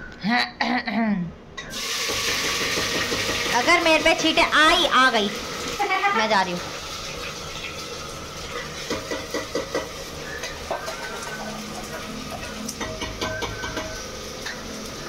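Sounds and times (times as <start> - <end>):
food sizzling in hot oil: 1.7 - 15.0.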